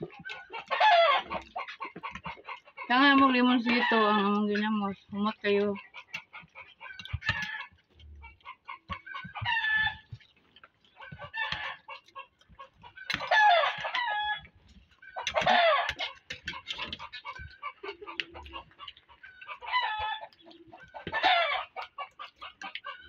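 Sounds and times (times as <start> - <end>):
chickens calling: 0.0 - 23.0.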